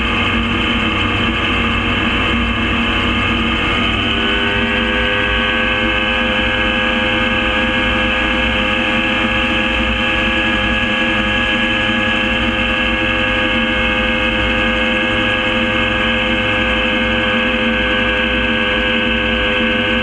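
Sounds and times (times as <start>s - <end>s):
aircraft engine and propeller drone: 0.0s - 20.0s.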